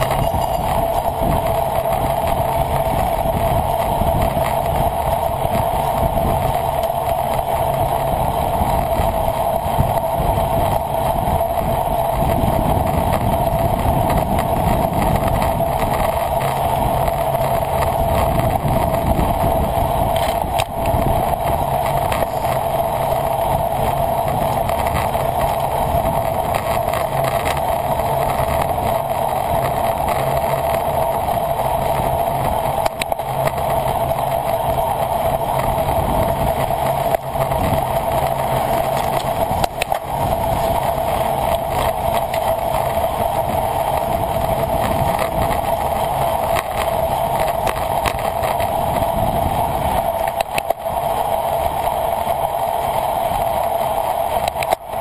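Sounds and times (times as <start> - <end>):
bicycle road noise: 0.0 - 55.0
wind rush: 0.0 - 55.0.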